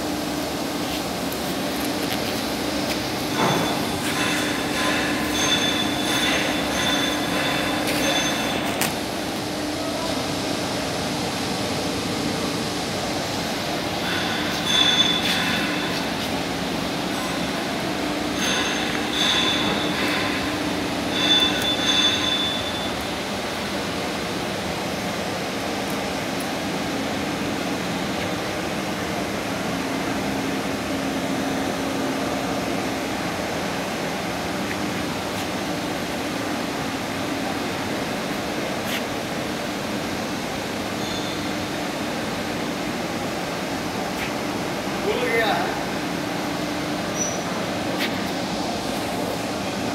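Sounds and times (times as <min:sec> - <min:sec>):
machinery hum: 0:00.0 - 0:49.9.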